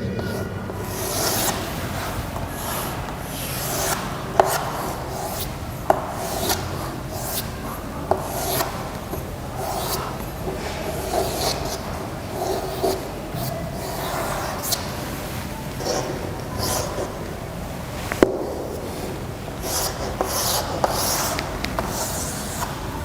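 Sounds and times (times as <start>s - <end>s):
pen scratching on paper: 0.2s - 14.9s, 15.8s - 17.2s, 19.6s - 22.8s.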